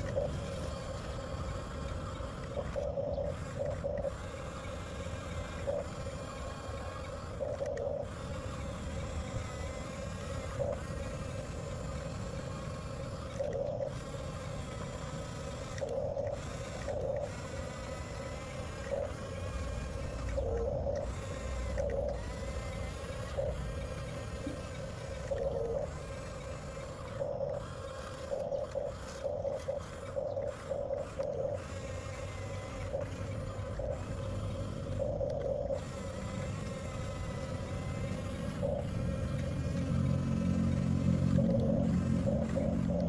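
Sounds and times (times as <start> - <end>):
electric motors and gearboxes running: 0.0 - 43.0
mechanical clatter: 0.0 - 43.0.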